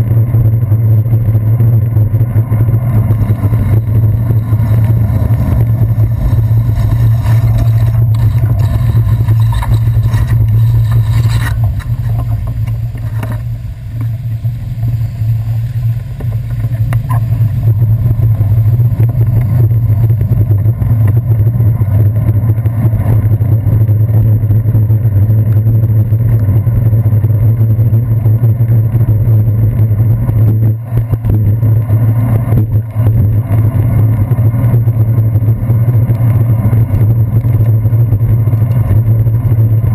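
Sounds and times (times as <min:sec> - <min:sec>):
bicycle rumbling over wet streets: 0:00.0 - 0:39.9.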